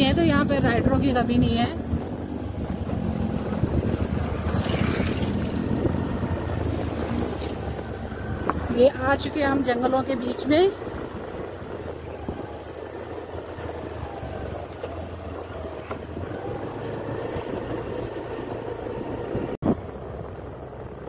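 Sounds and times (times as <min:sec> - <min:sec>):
road and wind noise: 0:00.0 - 0:21.0
scooter engine humming: 0:00.0 - 0:21.0.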